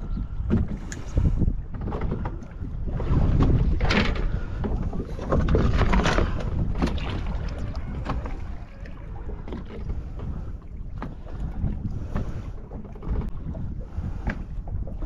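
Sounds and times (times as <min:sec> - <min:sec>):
water splashing against boat hull: 0:00.0 - 0:15.0
wind buffeting microphone: 0:00.0 - 0:15.0.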